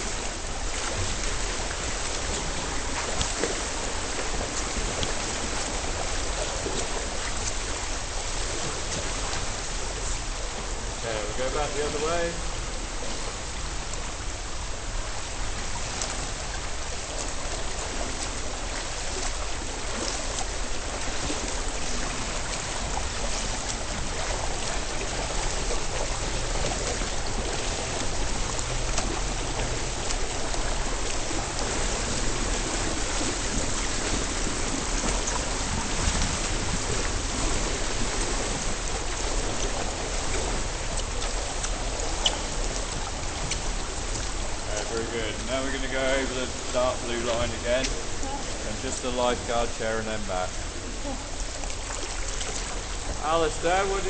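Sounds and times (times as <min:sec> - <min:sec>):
swimmer strokes stirring water: 0:00.0 - 0:54.0
underwater hiss and churn: 0:00.0 - 0:54.0.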